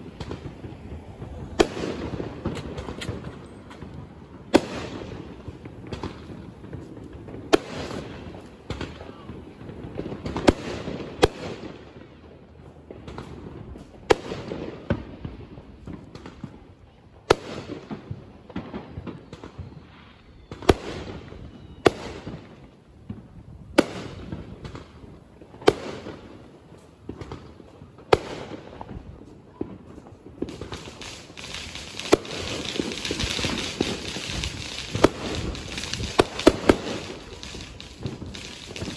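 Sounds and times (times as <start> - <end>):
fireworks bangs: 0.0 - 38.9
fireworks pops and crackle: 0.0 - 38.9.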